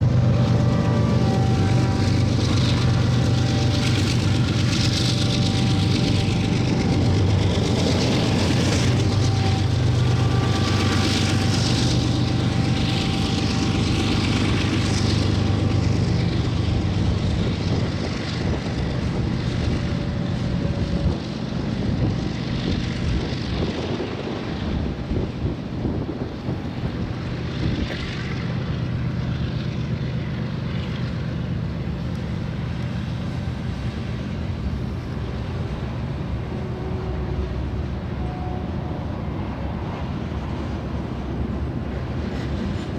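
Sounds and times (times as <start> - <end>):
freight train rumble: 0.0 - 42.9
locomotive engine drone: 0.0 - 42.9.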